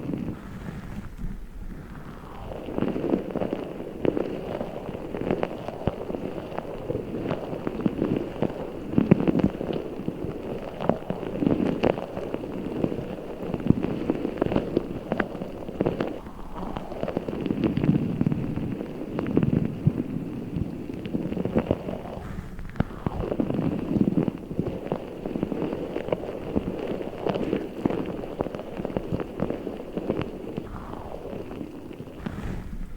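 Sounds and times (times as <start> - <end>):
small crackles and clicks: 0.0 - 32.9.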